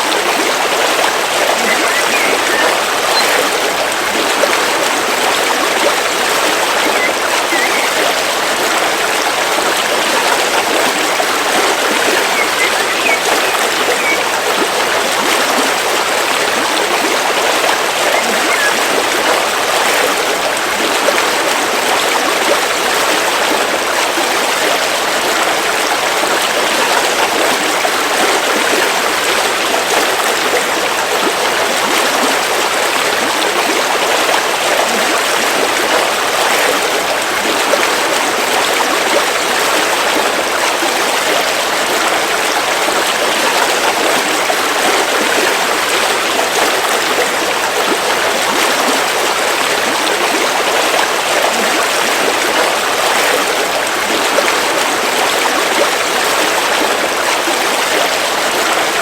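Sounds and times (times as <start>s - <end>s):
river flowing over stones: 0.0s - 59.0s.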